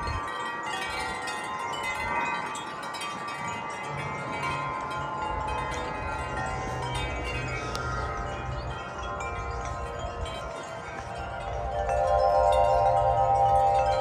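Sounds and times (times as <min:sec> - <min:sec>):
metal wind chimes ringing: 0:00.0 - 0:14.0.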